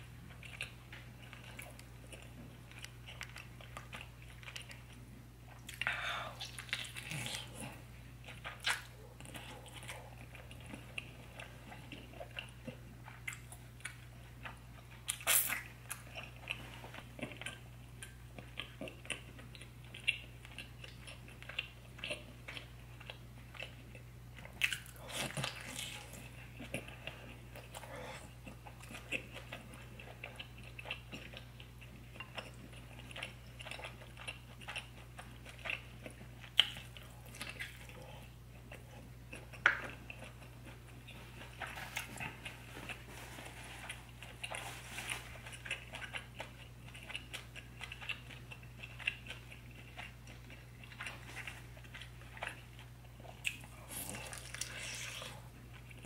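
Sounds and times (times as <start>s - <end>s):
low steady hum: 0.0s - 56.0s
wet chewing and biting: 0.3s - 56.0s.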